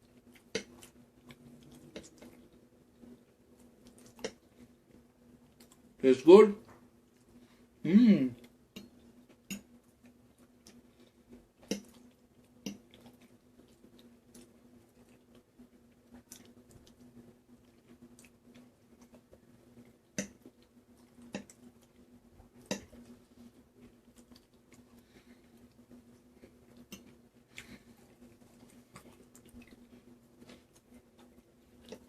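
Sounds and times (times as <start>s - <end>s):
person chewing: 0.0s - 6.0s, 8.3s - 32.0s
steady low hum: 0.0s - 32.0s.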